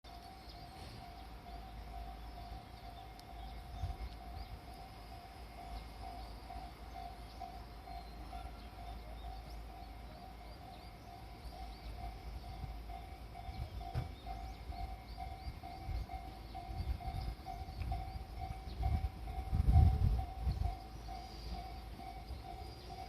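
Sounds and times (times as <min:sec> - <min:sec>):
level crossing alarm ringing: 0:00.1 - 0:23.0
small birds chirping: 0:00.1 - 0:23.0.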